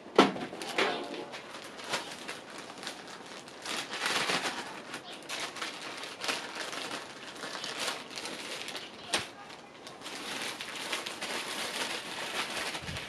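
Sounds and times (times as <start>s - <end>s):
plastic bag crinkling: 0.4s - 13.0s.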